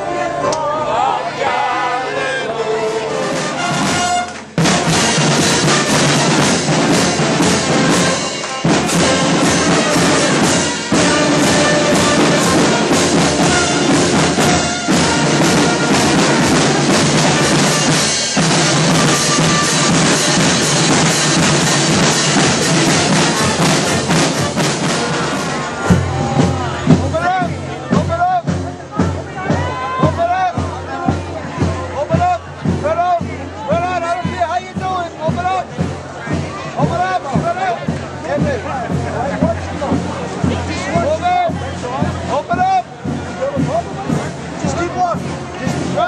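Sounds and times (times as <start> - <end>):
marching band playing: 0.0 - 46.0
bass drum strokes: 3.3 - 46.0.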